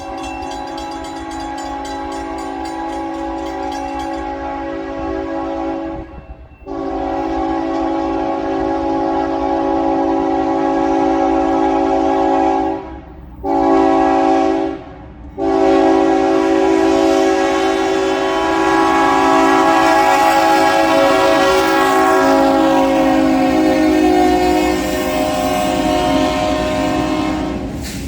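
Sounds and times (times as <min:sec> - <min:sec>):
locomotive air horn blasts: 0:00.0 - 0:27.8
passing train noise: 0:00.0 - 0:28.0.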